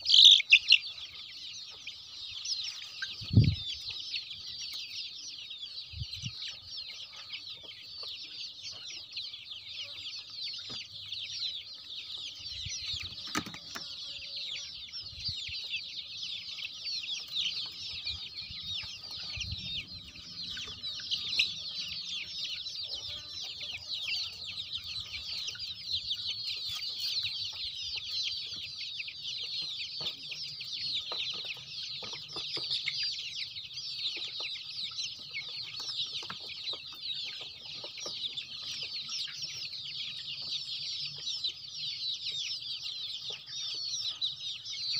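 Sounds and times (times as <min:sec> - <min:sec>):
chicks peeping: 0:00.0 - 0:44.9.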